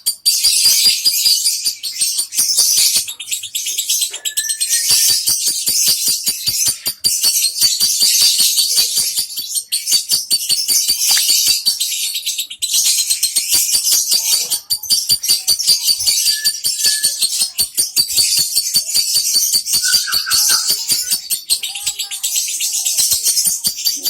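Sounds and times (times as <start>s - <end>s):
lovebird chattering: 0.0s - 24.0s.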